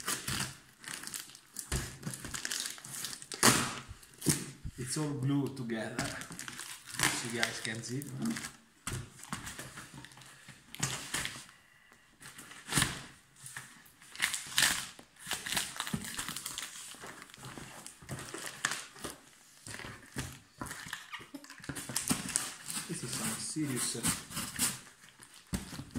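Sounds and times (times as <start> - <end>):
tape and plastic wrap crinkling: 0.0 - 25.9.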